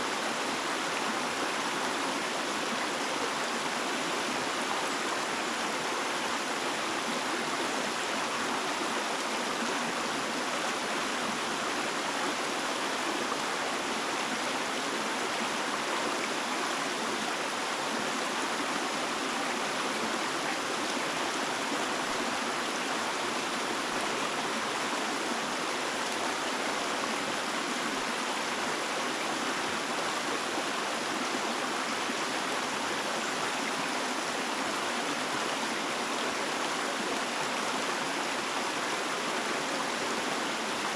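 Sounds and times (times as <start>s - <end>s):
water flowing steadily: 0.0s - 40.9s.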